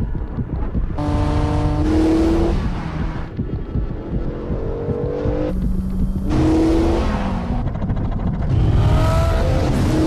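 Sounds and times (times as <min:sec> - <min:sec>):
car engine accelerating hard: 0:01.0 - 0:10.0.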